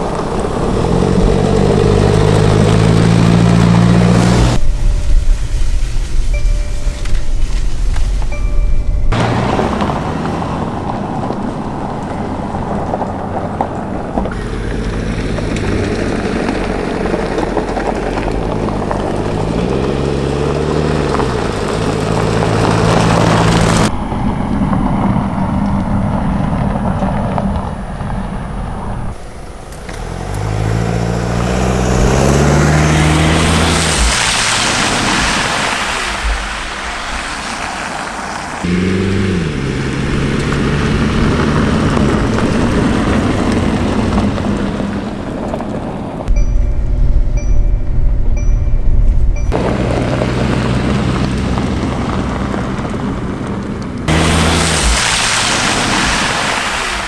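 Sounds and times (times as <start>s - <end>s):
tyres splashing through mud: 0.0s - 8.4s, 9.1s - 23.9s, 29.9s - 46.3s, 49.5s - 57.0s
gravel spraying from wheels: 0.0s - 46.3s, 49.5s - 57.0s
car engine pulling: 0.0s - 57.0s.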